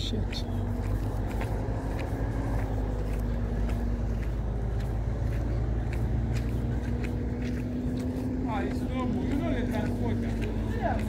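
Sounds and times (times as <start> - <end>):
large vehicle engine idling: 0.0 - 11.0.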